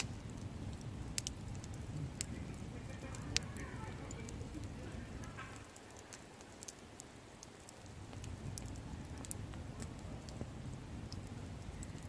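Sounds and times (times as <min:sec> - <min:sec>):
bonfire crackling: 0:00.0 - 0:12.0
low rumble of flames: 0:00.0 - 0:12.0
sharp pops of fire: 0:00.0 - 0:12.0.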